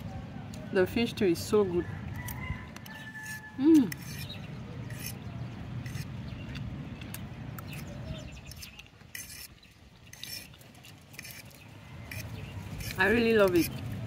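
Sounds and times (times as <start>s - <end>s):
chewing and smacking: 2.0s - 14.0s.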